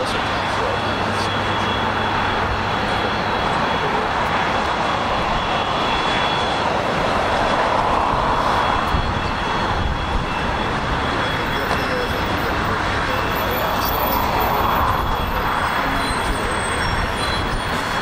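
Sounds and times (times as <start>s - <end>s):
airliner engines rushing: 0.0s - 18.0s.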